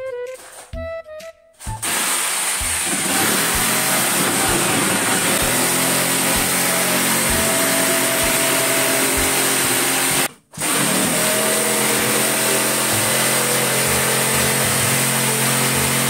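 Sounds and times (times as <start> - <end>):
electric drill whining: 1.7 - 16.0.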